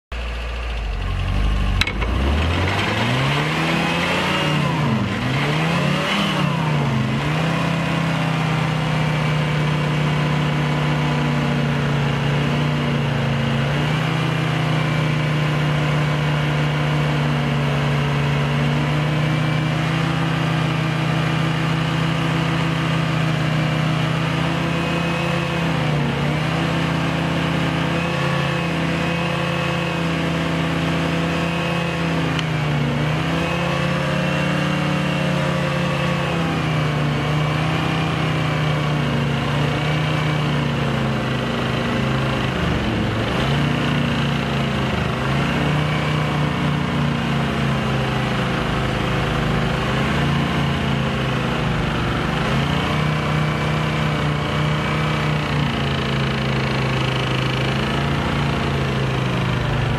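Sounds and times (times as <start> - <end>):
car engine revving: 0.1 - 59.9.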